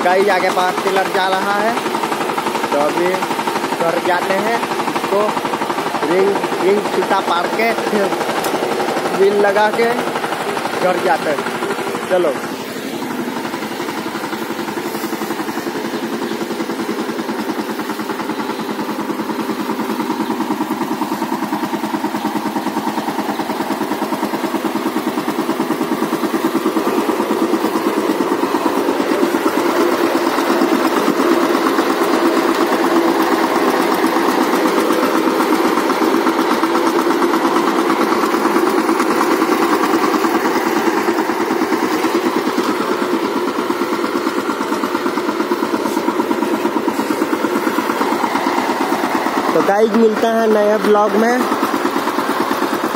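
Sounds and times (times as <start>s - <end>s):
power tiller diesel engine running: 0.0s - 52.9s.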